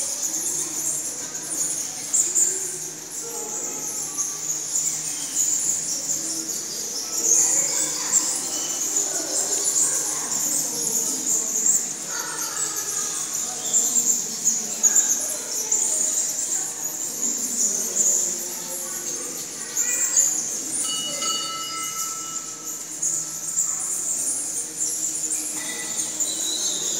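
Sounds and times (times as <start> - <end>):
distant echoing voices: 0.0 - 26.9.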